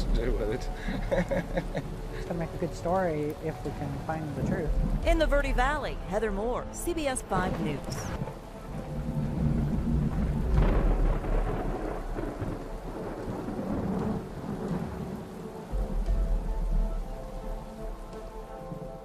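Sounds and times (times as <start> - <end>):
rain hissing: 0.0 - 19.0
thunder rumbling: 0.0 - 19.0.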